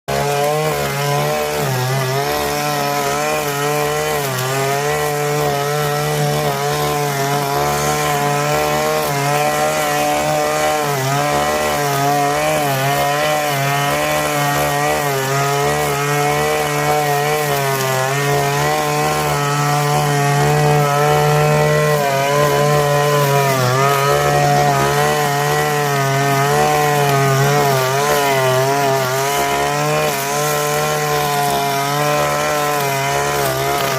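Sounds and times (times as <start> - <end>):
small two-stroke engine running: 0.1 - 33.9.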